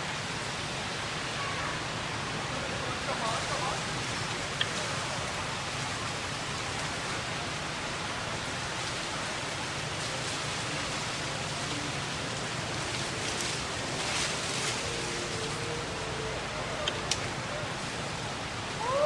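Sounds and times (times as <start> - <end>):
outdoor ambient hiss: 0.0 - 19.0.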